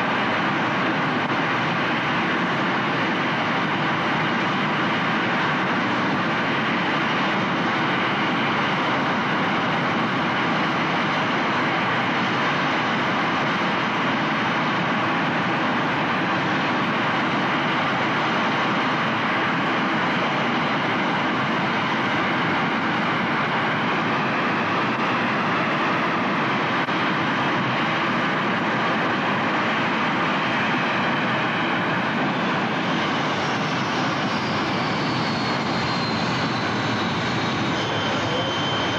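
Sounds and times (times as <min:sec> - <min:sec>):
loud jet engine noise: 0:00.0 - 0:38.9.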